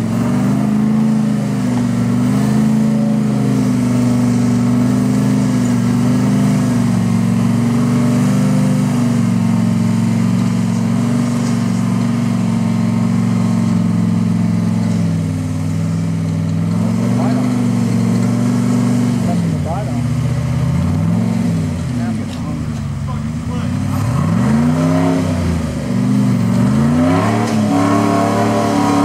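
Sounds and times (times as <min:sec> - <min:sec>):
off-road truck engine running: 0:00.0 - 0:29.0.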